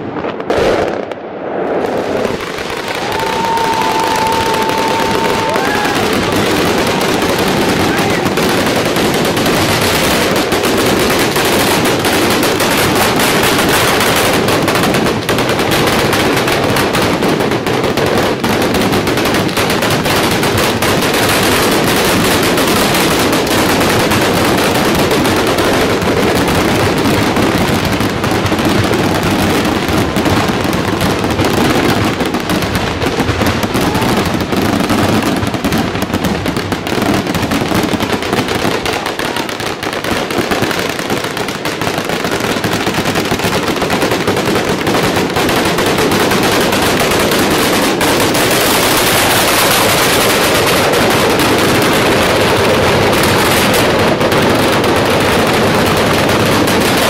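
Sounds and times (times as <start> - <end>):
firecrackers exploding in rapid crackle: 0.0 - 57.0.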